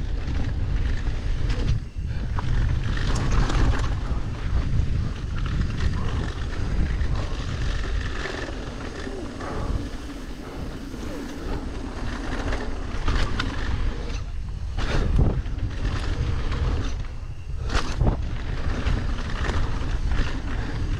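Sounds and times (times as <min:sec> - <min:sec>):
bike tyres crunching on dirt: 0:00.0 - 0:20.9
wind rumbling on microphone: 0:00.0 - 0:20.9.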